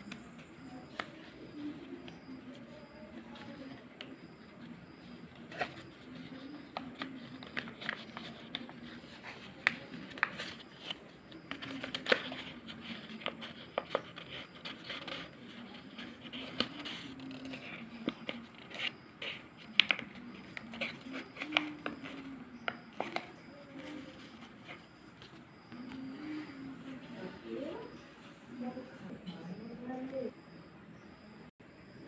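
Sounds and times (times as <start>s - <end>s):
paper rustling and crackling: 0.0s - 29.1s.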